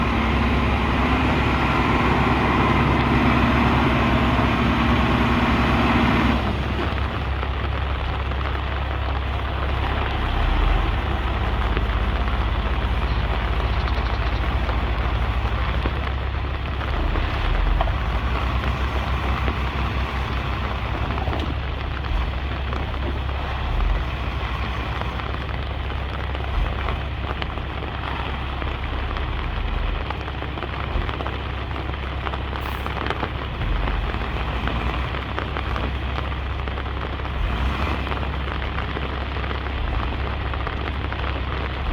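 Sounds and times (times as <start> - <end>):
rushing noise: 0.0 - 39.0
bulldozer diesel engine: 0.0 - 41.9.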